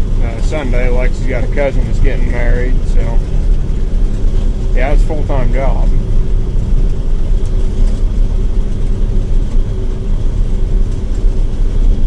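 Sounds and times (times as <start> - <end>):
combine harvester rumbling: 0.0 - 12.0
faint steady hum: 0.0 - 12.0.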